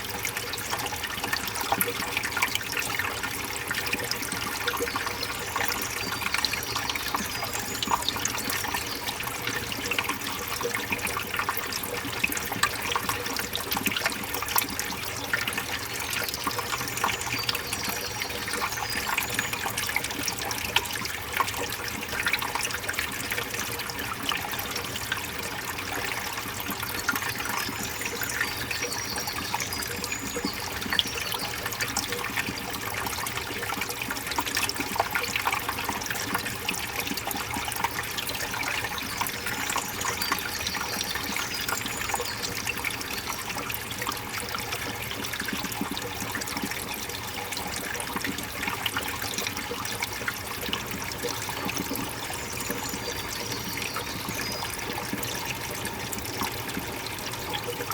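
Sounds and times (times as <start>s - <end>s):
stream water running over rocks: 0.0s - 57.9s.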